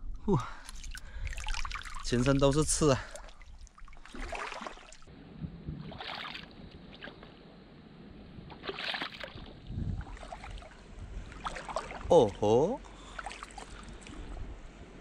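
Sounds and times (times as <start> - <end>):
seawater sloshing and lapping: 0.6 - 5.1, 5.7 - 7.4, 8.4 - 15.0
water splashes: 0.6 - 5.1, 5.7 - 7.4, 8.4 - 14.6.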